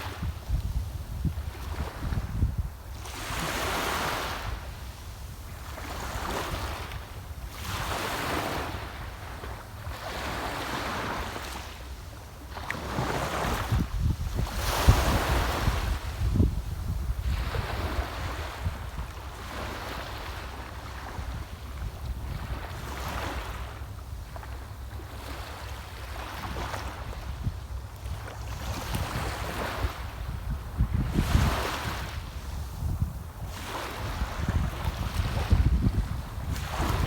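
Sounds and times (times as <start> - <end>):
wind rumbling on microphone: 0.0 - 9.5, 12.9 - 24.4, 26.4 - 37.0
sea waves breaking on shore: 0.0 - 37.0.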